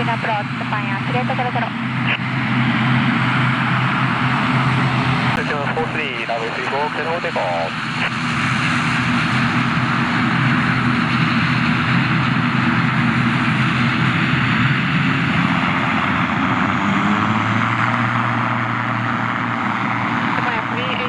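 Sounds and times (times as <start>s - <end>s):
airliner engines at takeoff: 0.0s - 21.0s
low hum: 0.0s - 21.0s.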